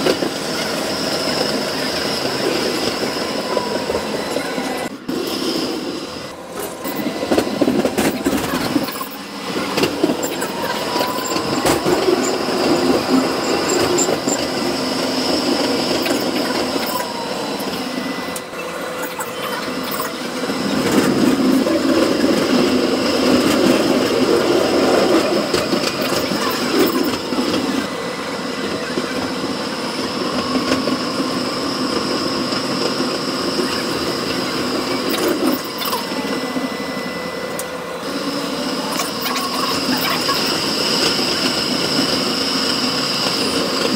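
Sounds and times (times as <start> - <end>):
tram wheels rumbling on rails: 0.0 - 43.9
faint whines: 5.8 - 43.9.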